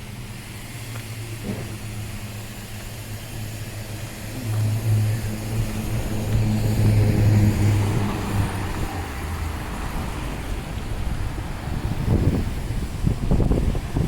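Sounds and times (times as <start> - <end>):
street traffic noise: 0.0 - 14.0
vehicle engine humming: 0.0 - 14.0.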